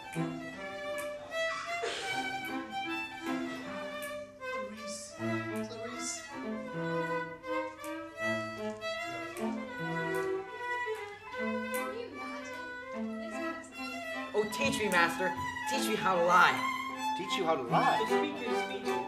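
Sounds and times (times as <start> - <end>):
lower accompanying notes: 0.0 - 19.0
violin melody: 0.0 - 19.0.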